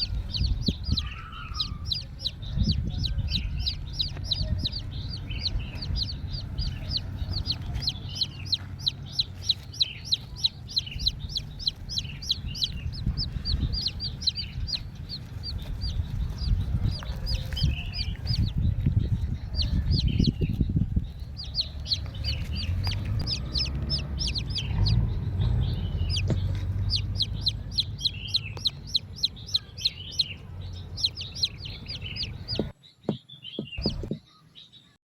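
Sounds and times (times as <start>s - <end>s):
low rumbling noise: 0.0s - 32.7s
small birds chirping: 0.0s - 35.0s.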